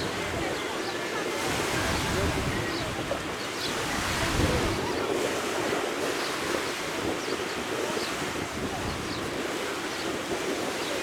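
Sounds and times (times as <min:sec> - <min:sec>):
sea surf: 0:00.0 - 0:11.0
wind noise on microphone: 0:01.4 - 0:11.0.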